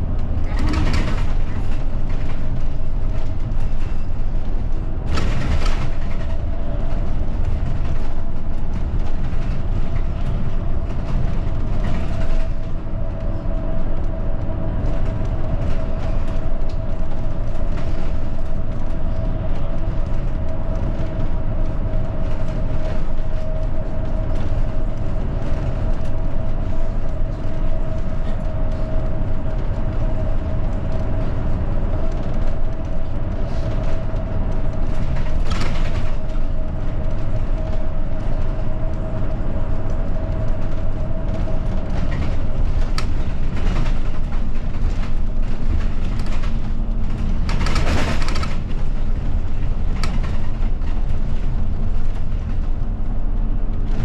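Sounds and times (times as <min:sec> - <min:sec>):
bus engine drone: 0:00.0 - 0:54.0
continuous whine: 0:00.0 - 0:54.0
road rumble: 0:00.0 - 0:54.0.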